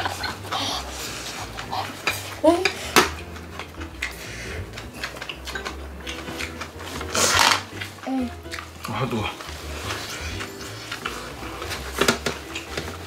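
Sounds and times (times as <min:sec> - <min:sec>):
utensils clinking on ceramic bowls: 0:01.5 - 0:13.0.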